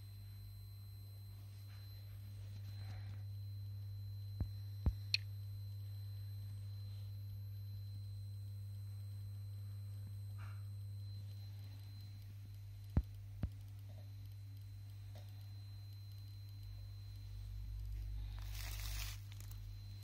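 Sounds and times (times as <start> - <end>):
faint high whine: 0.0 - 20.0
low electrical hum: 0.0 - 20.0.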